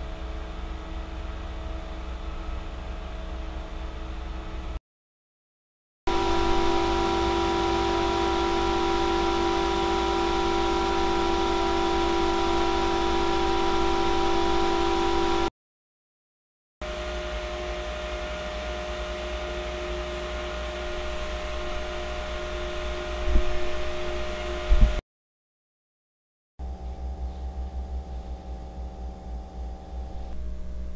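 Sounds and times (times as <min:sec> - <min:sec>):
computer fan whirring: 0:00.0 - 0:04.8, 0:06.1 - 0:15.5, 0:16.8 - 0:25.0, 0:26.6 - 0:30.9.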